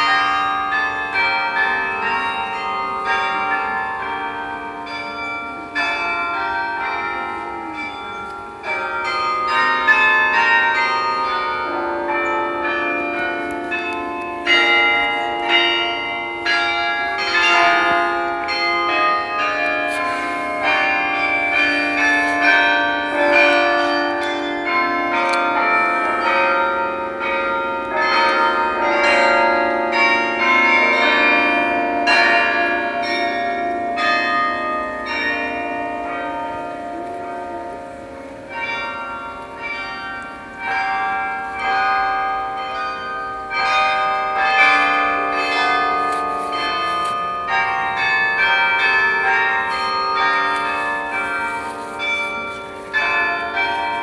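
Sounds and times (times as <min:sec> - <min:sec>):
carillon bells playing a melody: 0:00.0 - 0:54.0.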